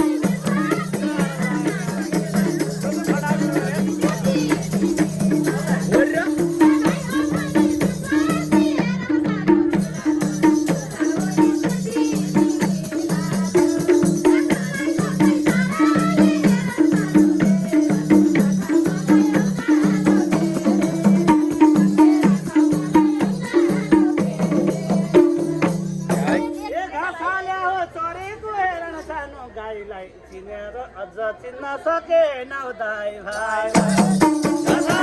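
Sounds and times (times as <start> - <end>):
shaker rattle percussion: 0.0 - 26.7, 33.3 - 35.0.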